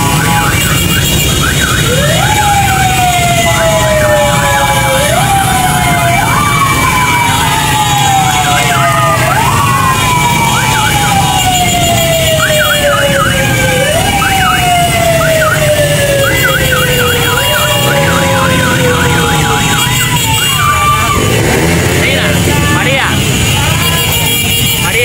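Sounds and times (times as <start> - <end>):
motorcycle engines rumbling: 0.0 - 25.0
sirens wailing: 0.0 - 25.0.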